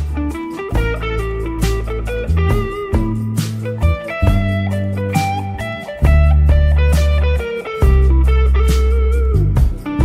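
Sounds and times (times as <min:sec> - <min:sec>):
guitar blues solo: 0:00.0 - 0:10.0
steady bass line: 0:00.0 - 0:10.0.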